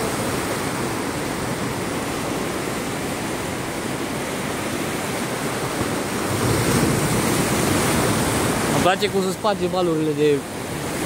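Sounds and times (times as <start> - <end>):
ocean surf breaking on rocks: 0.0 - 11.0.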